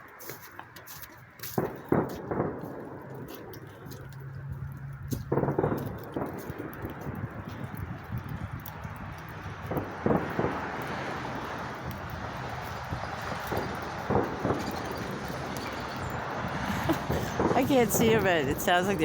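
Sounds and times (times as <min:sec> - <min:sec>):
outdoor background rumble: 0:00.0 - 0:19.0
distant fireworks bangs: 0:00.4 - 0:19.0.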